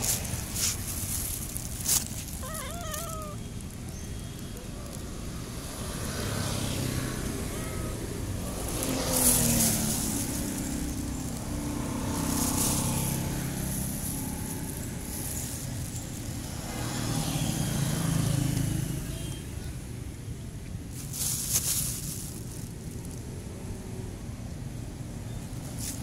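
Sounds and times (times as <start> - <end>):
passing vehicle engines: 0.0 - 26.0.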